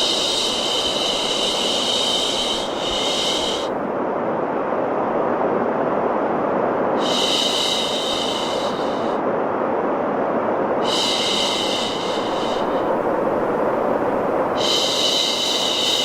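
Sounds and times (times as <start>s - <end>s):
rushing white noise: 0.0s - 16.0s.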